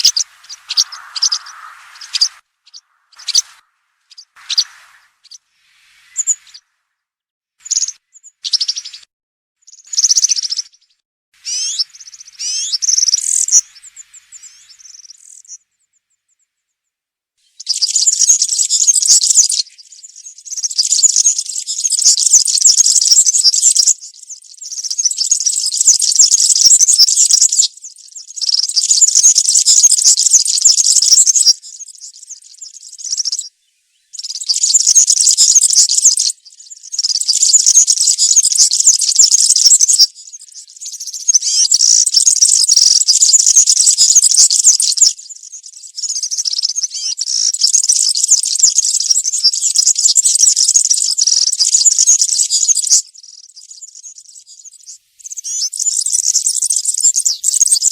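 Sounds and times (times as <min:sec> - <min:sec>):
bird singing: 0:00.0 - 0:06.7, 0:09.7 - 0:16.4, 0:17.6 - 0:57.9.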